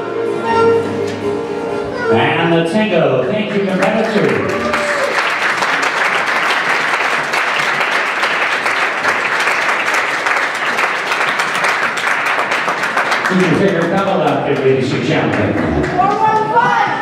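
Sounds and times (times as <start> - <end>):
audience applauding: 3.4 - 17.0.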